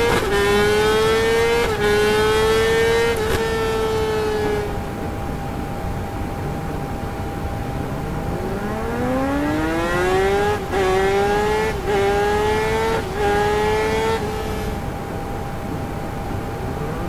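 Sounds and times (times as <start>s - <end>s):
motorcycle engine accelerating hard: 0.0s - 5.0s, 8.1s - 17.0s.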